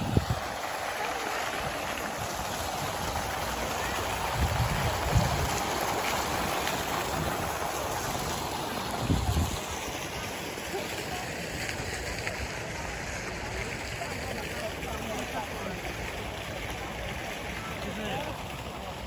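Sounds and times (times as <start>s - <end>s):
fountain water splashing into pool: 0.0s - 19.0s.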